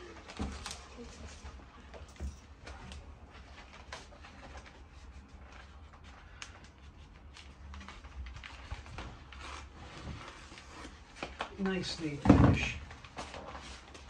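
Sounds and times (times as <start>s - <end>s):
foil tape rustling and crackling: 0.0s - 1.8s, 2.7s - 14.0s.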